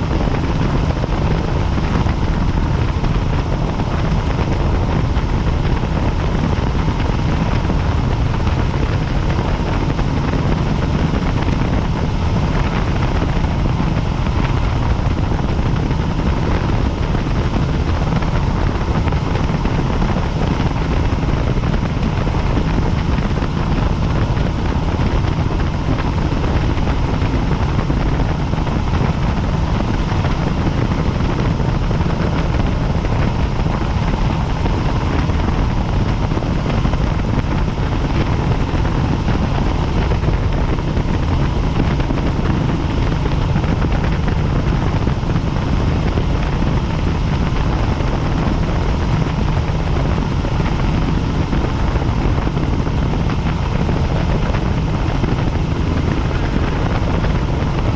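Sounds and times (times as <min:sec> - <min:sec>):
faint steady whine: 0:00.0 - 0:57.9
helicopter rotor and engine: 0:00.0 - 0:57.9.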